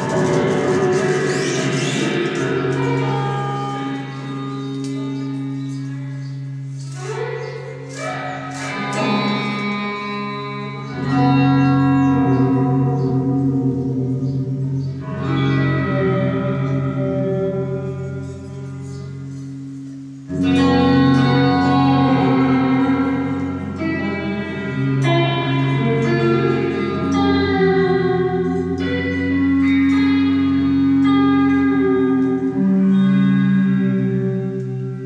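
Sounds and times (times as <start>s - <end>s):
electric guitar with heavy reverb: 0.0s - 35.0s.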